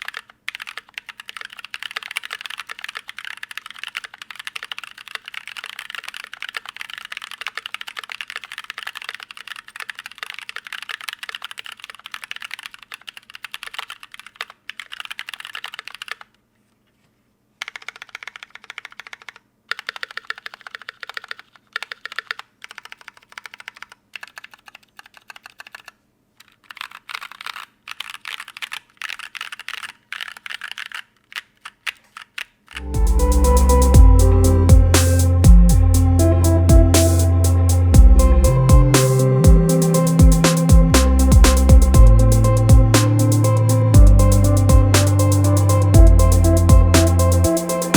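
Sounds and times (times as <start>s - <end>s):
mechanical keyboard typing: 0.0s - 16.4s, 17.6s - 33.5s, 38.8s - 47.9s.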